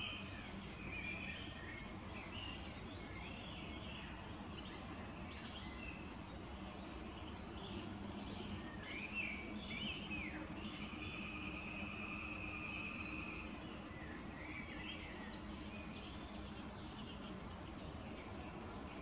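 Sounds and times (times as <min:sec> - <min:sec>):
nightingale singing: 0:00.0 - 0:19.0.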